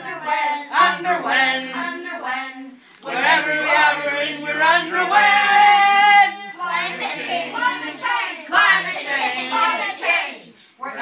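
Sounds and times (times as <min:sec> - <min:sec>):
children and adults singing: 0:00.0 - 0:11.0.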